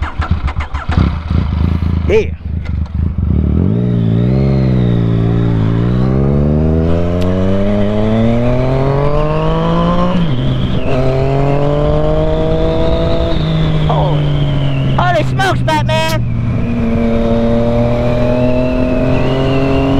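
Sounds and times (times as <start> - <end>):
motorcycle engine accelerating: 0.0 - 19.9.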